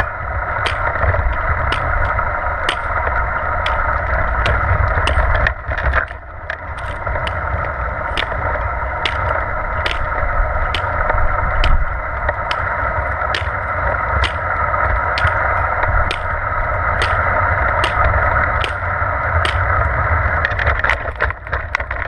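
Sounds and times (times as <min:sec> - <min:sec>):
hiking poles clicking on pavement: 0:00.0 - 0:22.0
wheelchair rolling on asphalt: 0:00.0 - 0:22.0.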